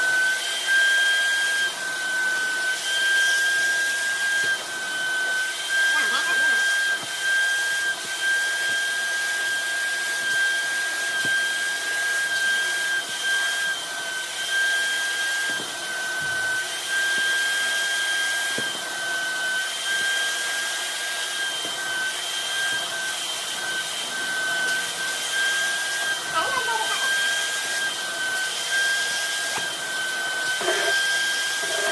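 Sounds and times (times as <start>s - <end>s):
carpet cleaner suction motor whining: 0.0s - 31.9s.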